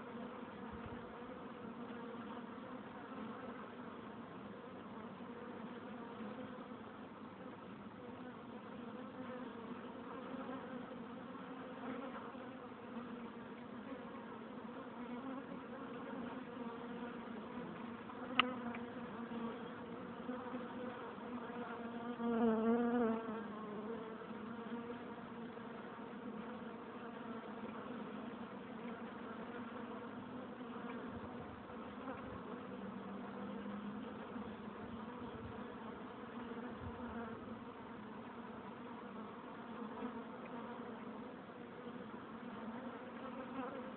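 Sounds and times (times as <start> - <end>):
single bee buzzing close: 8.1 - 43.9
bees buzzing: 8.7 - 43.9.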